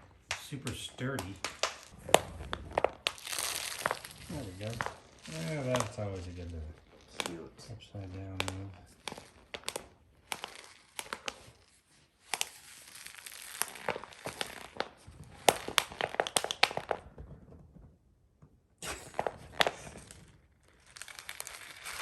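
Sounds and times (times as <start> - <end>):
dog chewing plastic toy: 0.0 - 11.6, 13.5 - 17.7, 19.0 - 22.0.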